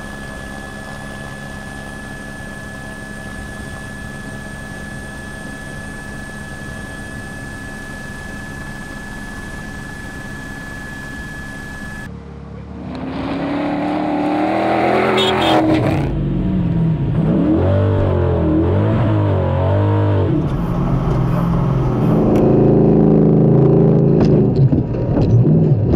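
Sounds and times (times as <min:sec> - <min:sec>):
high whine: 0:00.0 - 0:25.0
engine accelerating: 0:00.0 - 0:25.9
steady mechanical drone: 0:00.0 - 0:25.9.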